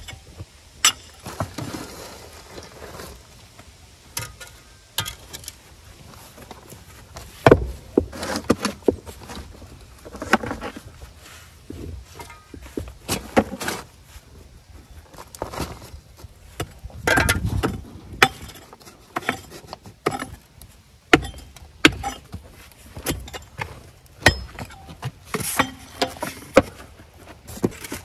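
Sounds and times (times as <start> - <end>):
shovel scraping dirt and gravel: 0.0 - 3.4, 4.1 - 14.2, 15.0 - 28.0.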